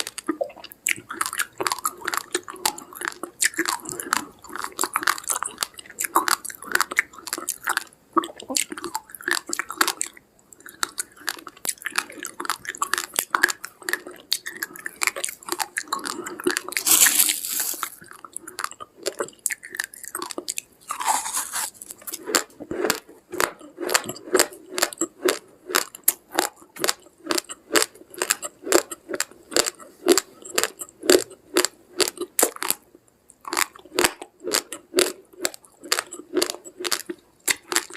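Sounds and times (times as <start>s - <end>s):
rice grains crunching when chewed: 0.0s - 32.8s, 33.4s - 37.9s.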